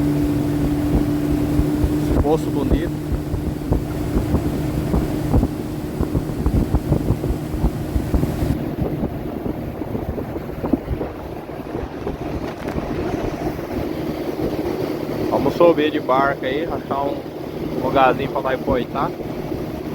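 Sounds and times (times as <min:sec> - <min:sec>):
boat motor humming: 0:00.0 - 0:19.9
wind buffeting microphone: 0:00.0 - 0:19.9.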